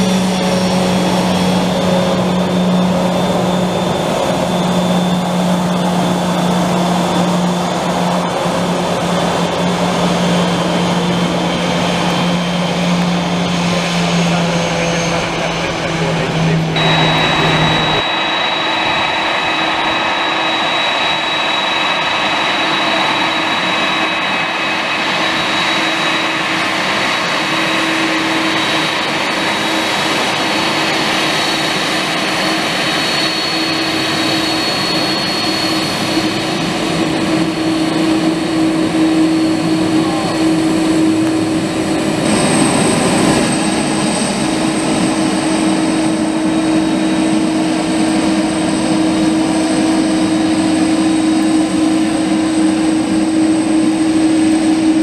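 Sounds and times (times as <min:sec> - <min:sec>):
jet engine whine: 0:00.0 - 0:55.0
low hum: 0:00.0 - 0:55.0.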